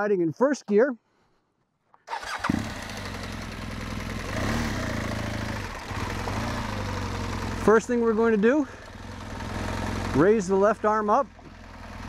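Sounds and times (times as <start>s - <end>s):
motorcycle engine pulling away: 2.1s - 12.0s.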